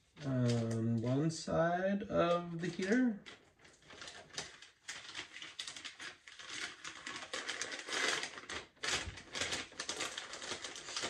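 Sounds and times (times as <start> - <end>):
plastic sleeve crinkling: 0.0 - 1.2, 2.2 - 11.0.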